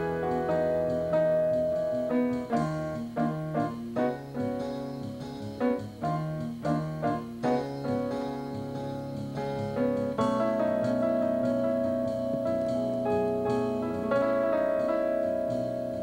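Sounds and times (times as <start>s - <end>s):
piano chords and melody: 0.0s - 16.0s.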